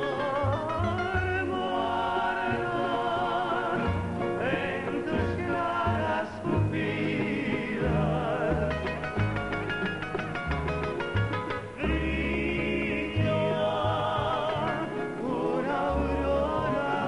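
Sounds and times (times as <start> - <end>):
male vocal group singing: 0.0 - 9.4, 11.7 - 17.0
bass line: 0.0 - 17.0.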